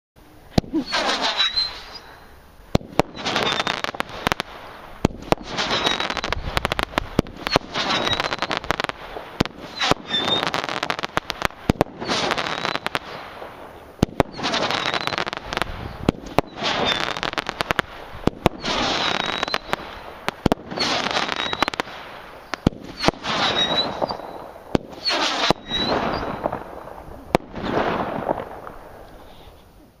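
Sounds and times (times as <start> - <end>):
firework bangs: 0.5 - 29.6
crackling of bursting stars: 0.5 - 29.8.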